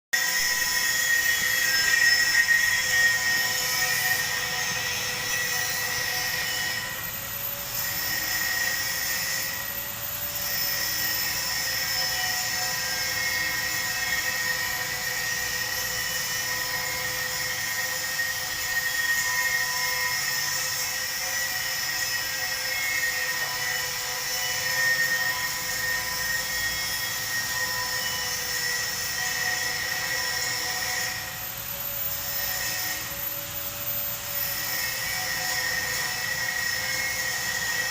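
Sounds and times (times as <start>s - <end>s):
arc welding hiss: 0.2s - 37.9s
hum and whine: 0.2s - 37.9s.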